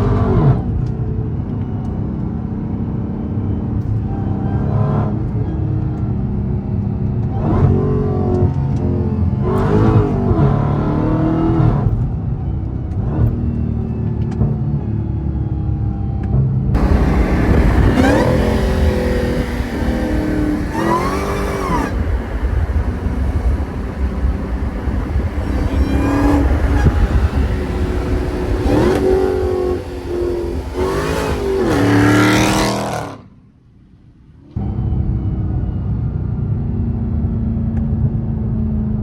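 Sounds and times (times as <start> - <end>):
car engine accelerating hard: 0.0 - 33.4.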